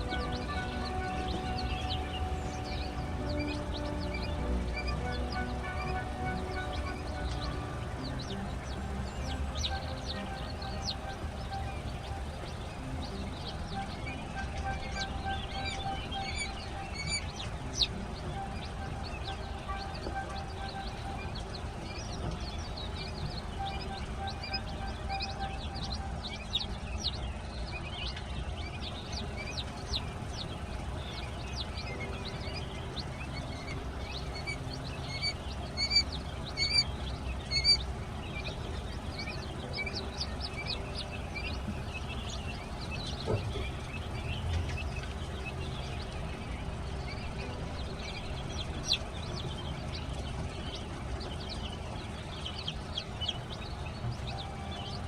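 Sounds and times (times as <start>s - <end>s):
chicks peeping: 0.0s - 55.0s
low background hum: 0.0s - 55.0s.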